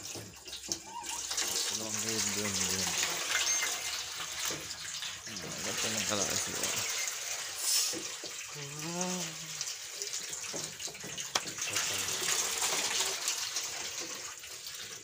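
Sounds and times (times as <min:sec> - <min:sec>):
water gushing onto concrete: 0:00.0 - 0:15.0.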